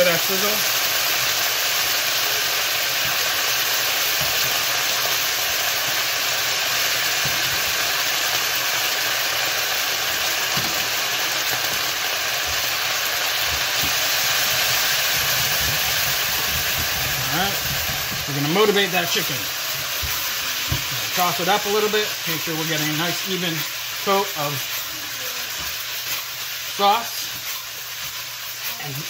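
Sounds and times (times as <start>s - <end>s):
sauce sizzling in a pan: 0.0s - 29.0s.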